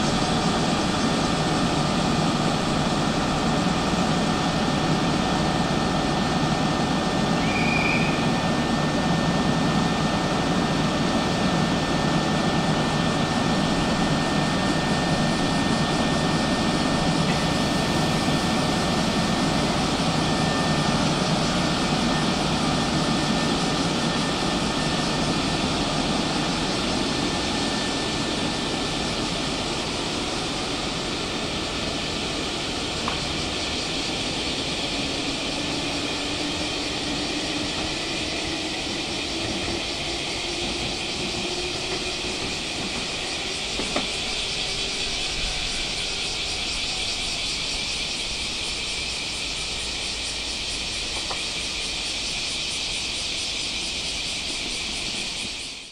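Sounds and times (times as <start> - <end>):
electric train motor hum: 0.0 - 55.3.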